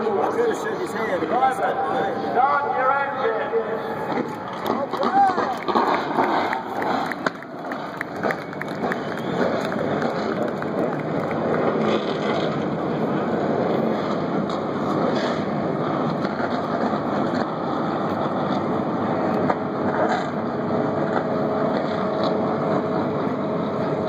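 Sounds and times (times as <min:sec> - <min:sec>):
held steady engine tones: 0:00.0 - 0:24.0
race car engines running together: 0:04.0 - 0:24.0.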